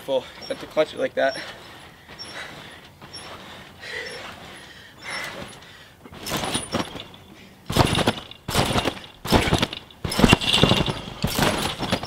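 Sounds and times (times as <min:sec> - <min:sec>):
trampoline thumps: 0:00.3 - 0:12.0.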